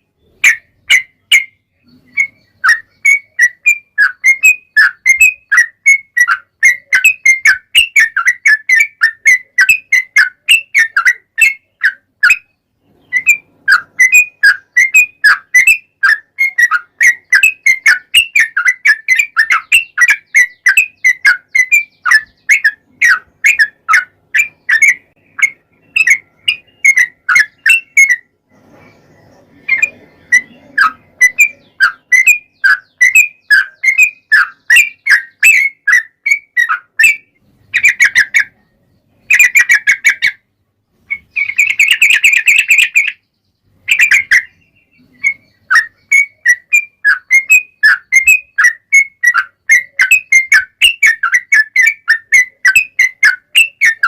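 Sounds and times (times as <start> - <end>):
bulbul chirping song: 0.0 - 54.0.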